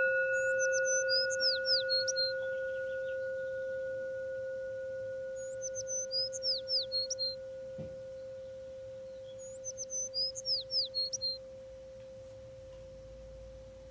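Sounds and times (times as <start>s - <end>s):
singing bowl ringing: 0.0s - 13.9s
songbird chirping: 0.0s - 13.9s.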